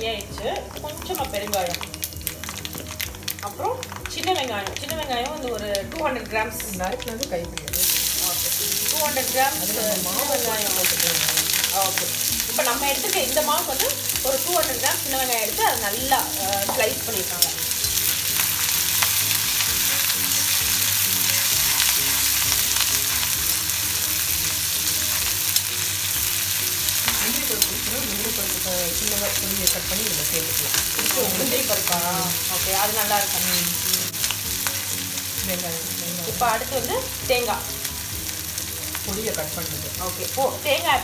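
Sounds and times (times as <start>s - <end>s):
shallots sizzling in a wok: 0.0s - 41.0s.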